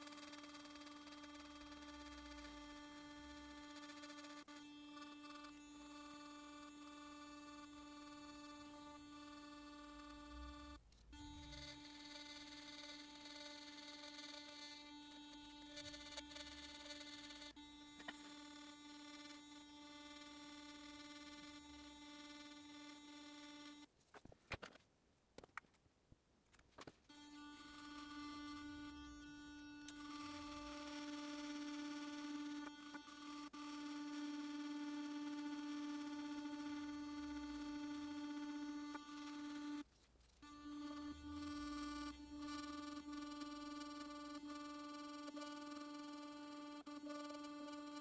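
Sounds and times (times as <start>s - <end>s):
electric toothbrush buzzing on glass: 0.0s - 23.9s, 27.1s - 48.0s.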